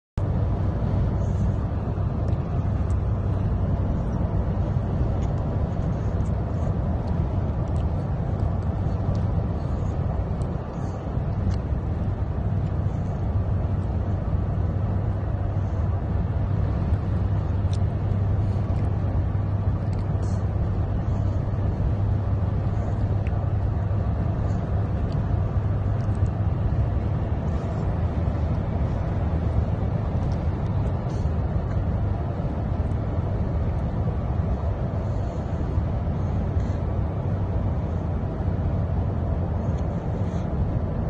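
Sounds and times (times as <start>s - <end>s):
car cabin drone: 0.2s - 41.0s.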